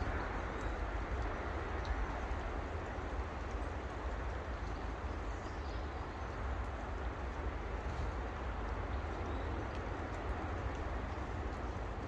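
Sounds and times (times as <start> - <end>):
low outdoor rumble and hiss: 0.0 - 12.0.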